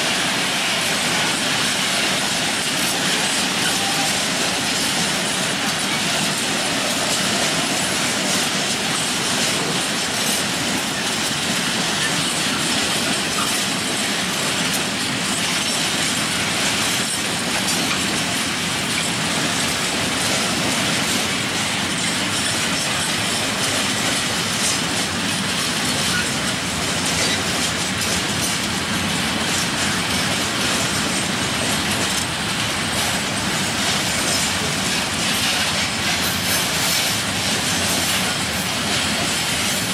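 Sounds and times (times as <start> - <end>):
train wheels running on rails: 0.0 - 39.9.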